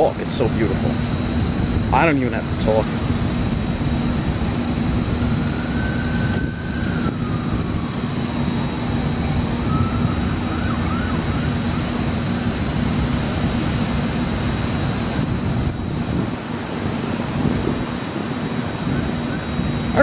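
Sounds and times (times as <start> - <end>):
city traffic: 0.0 - 20.0
constant low hum: 0.0 - 20.0
wind: 0.0 - 20.0
faint siren wailing: 3.0 - 20.0.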